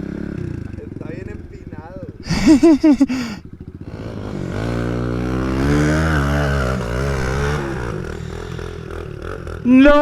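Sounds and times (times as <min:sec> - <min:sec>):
small engine revving: 0:00.0 - 0:10.0.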